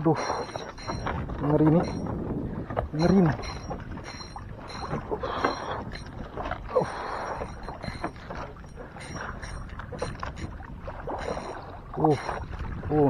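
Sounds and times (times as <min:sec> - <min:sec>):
water sloshing against hull: 0:00.0 - 0:13.0
wind: 0:00.0 - 0:13.0.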